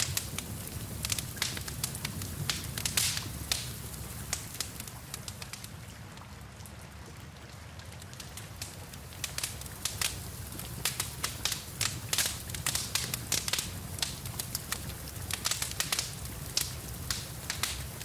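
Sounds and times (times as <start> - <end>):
rain hissing: 0.0 - 6.1, 8.2 - 18.0
wood fire crackling and popping: 0.0 - 7.2, 7.9 - 18.0.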